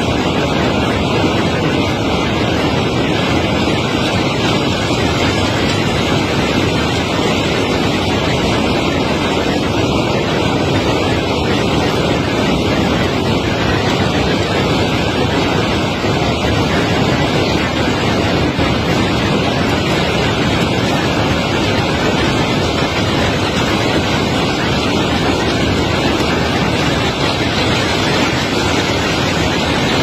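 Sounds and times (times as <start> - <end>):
loud rushing noise: 0.0 - 30.0.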